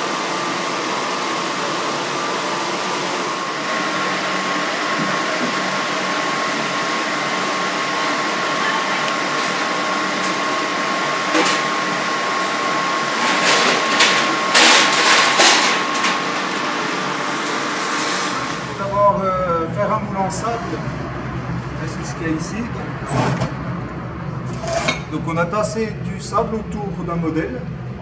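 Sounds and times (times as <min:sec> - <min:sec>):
furnace blown air rushing: 0:00.0 - 0:28.0.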